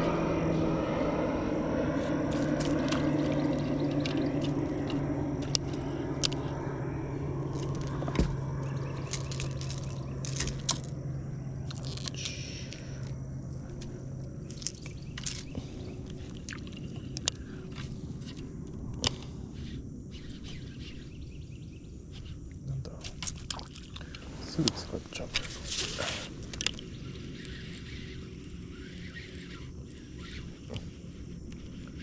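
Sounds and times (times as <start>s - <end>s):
low motor hum: 0.0s - 32.0s.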